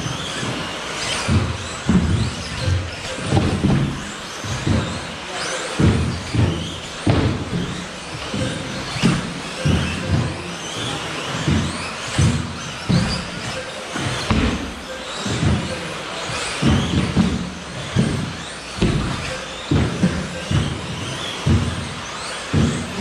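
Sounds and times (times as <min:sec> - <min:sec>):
rc car motors whining: 0:00.0 - 0:23.0
rc cars landing thuds: 0:00.0 - 0:23.0.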